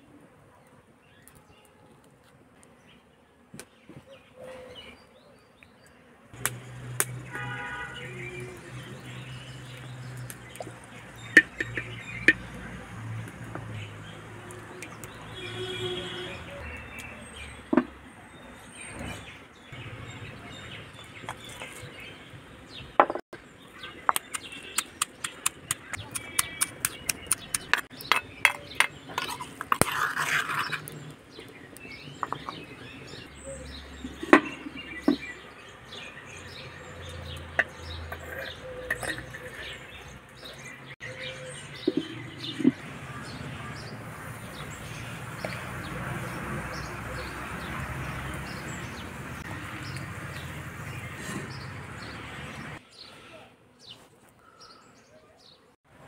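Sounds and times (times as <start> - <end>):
birds chirping: 2.7 - 55.8.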